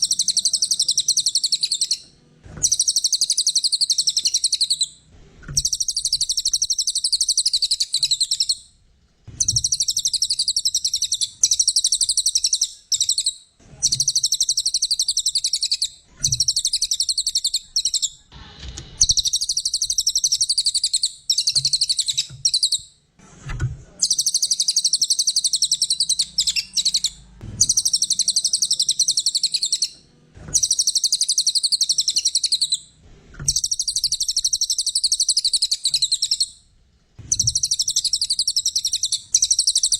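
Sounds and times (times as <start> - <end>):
songbird chattering song: 0.0 - 5.0, 5.6 - 8.6, 9.4 - 18.3, 19.0 - 22.9, 24.0 - 32.9, 33.5 - 36.6, 37.2 - 39.9.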